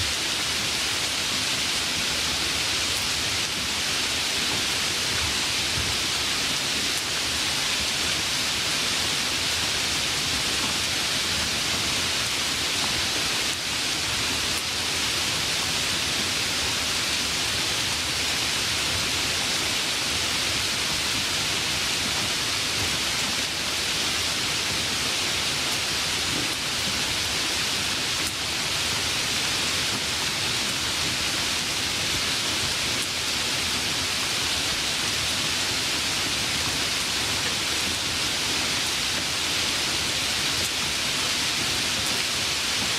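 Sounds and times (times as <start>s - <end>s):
light rain falling: 0.0s - 42.9s.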